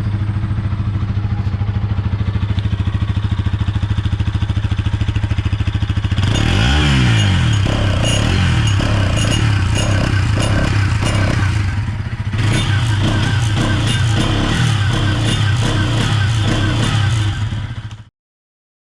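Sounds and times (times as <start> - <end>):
motorcycle engine running: 0.0 - 18.1
engine clicking: 0.1 - 18.0.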